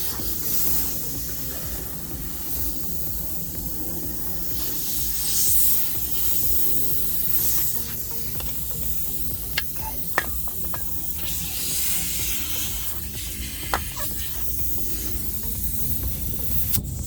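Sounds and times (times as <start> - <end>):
music: 0.0 - 17.0
steady hiss: 0.0 - 17.0.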